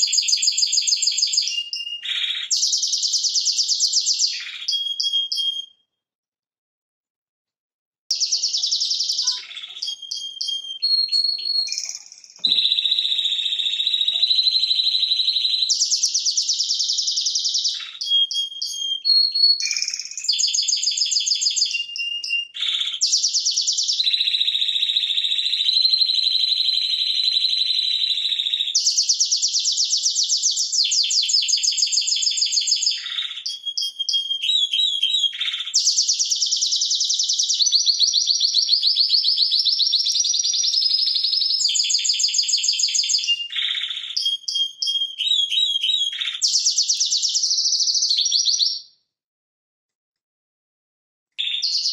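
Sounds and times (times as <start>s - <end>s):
canary trilling: 0.0s - 5.7s, 8.1s - 48.8s.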